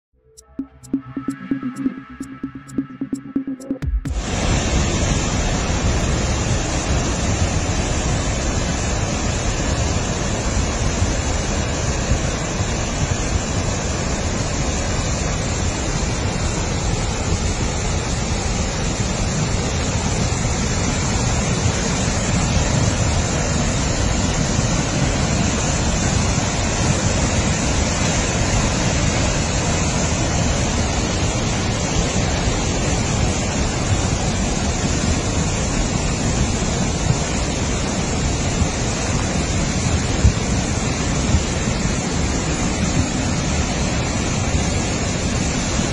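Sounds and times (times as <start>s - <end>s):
stream rushing over rocks: 4.1s - 45.9s.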